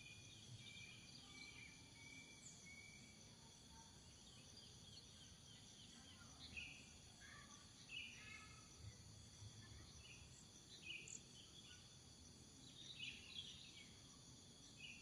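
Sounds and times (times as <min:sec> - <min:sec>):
high insect hum: 0:00.0 - 0:15.0.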